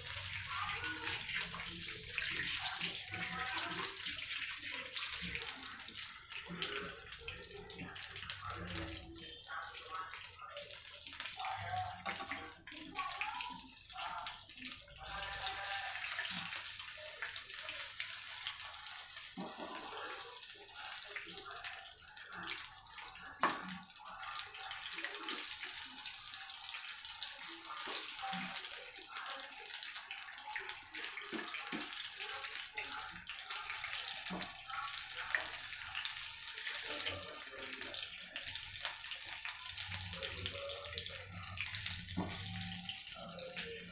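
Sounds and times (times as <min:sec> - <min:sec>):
food deep-frying in hot oil: 0:00.0 - 0:43.9.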